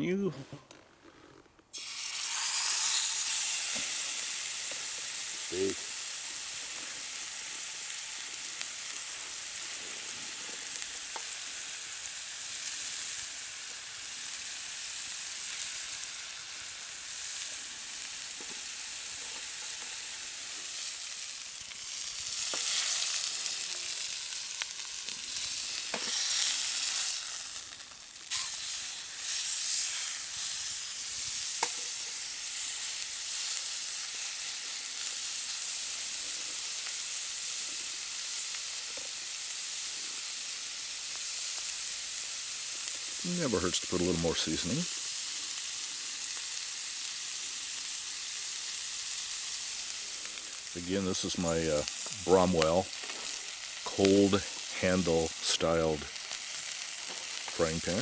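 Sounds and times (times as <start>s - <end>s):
steak sizzling in a frying pan: 1.7s - 58.0s.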